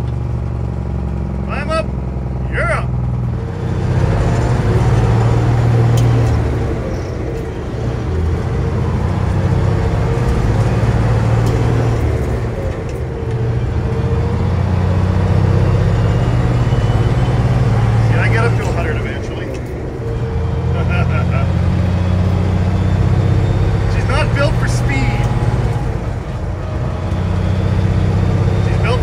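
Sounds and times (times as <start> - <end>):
road noise: 0.0 - 29.0
truck diesel engine drone: 0.0 - 29.0.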